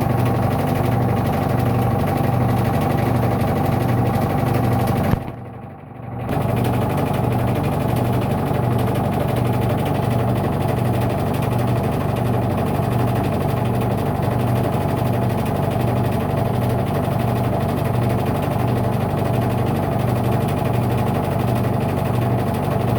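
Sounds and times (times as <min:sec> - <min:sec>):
washing machine humming: 0:00.0 - 0:22.9.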